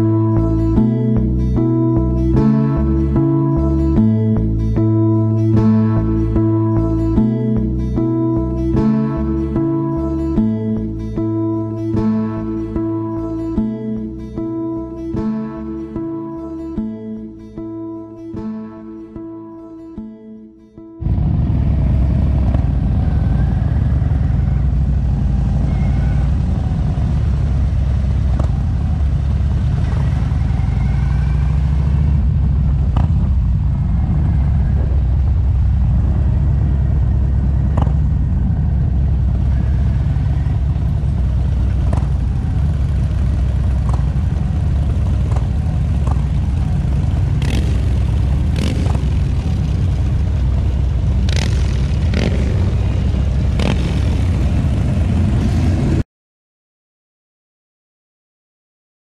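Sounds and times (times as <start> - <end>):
motorcycle engines rumbling: 0.0 - 16.6, 21.0 - 56.0.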